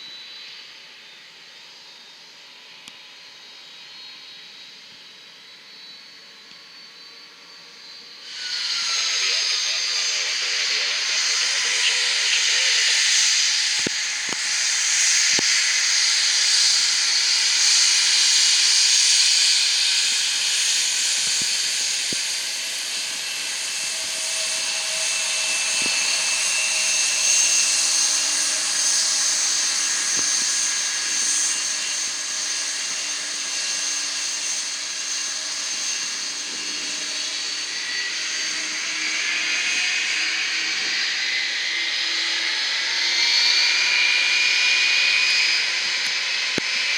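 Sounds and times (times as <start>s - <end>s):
jet engines whining hiss: 8.2s - 46.9s.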